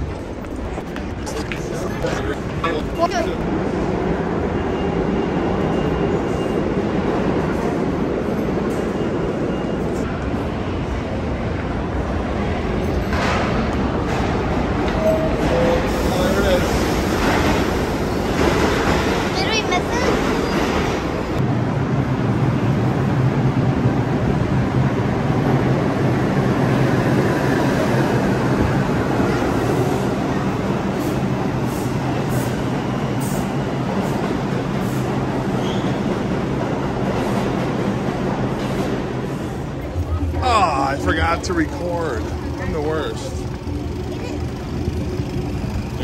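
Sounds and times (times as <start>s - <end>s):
subway train rumbling: 0.0s - 46.0s.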